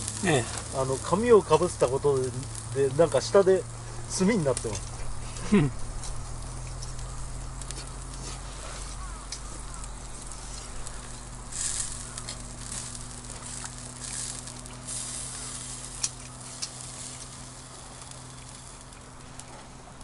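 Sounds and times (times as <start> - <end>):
food sizzling on a grill: 0.0 - 19.6.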